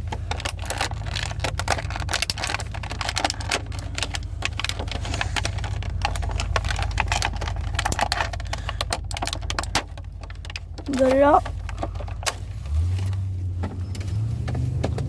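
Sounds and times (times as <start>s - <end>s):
toy packaging crackling: 0.0s - 13.2s.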